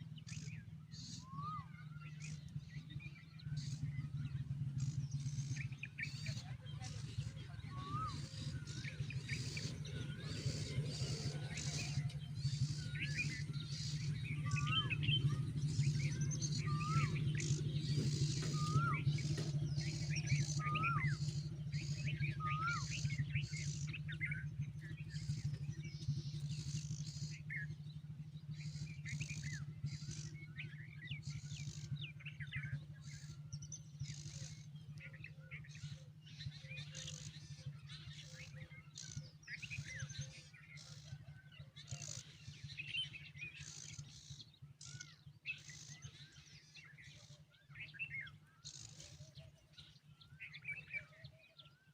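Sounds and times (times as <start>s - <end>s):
steady low hum: 0.0s - 51.8s
birds chirping: 0.0s - 51.9s.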